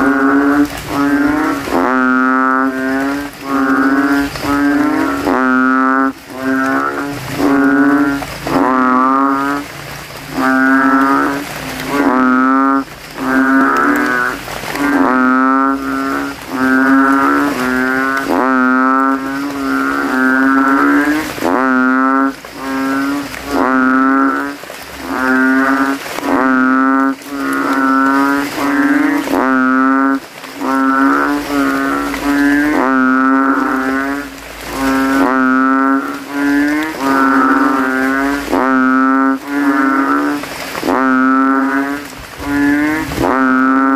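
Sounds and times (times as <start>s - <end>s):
frogs calling: 0.0s - 43.9s.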